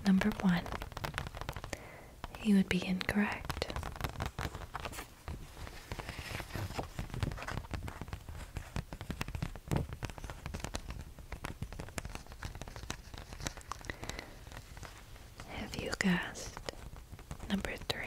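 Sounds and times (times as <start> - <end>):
laminated card crackling: 0.0 - 18.0.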